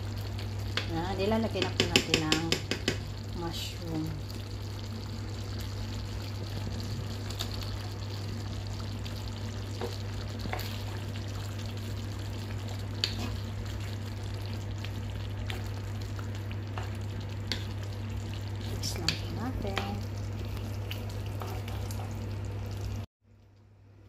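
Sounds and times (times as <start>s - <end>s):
steady low hum: 0.0s - 23.9s
sauce simmering in pan: 0.0s - 24.0s.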